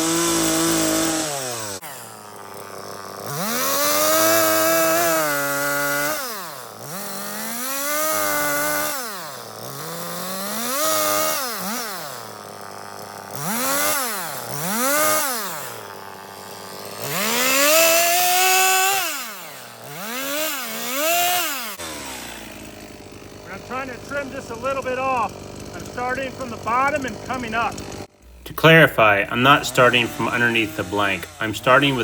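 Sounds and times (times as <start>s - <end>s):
chainsaw cutting wood: 0.0s - 32.0s
chainsaw revving: 0.0s - 32.0s.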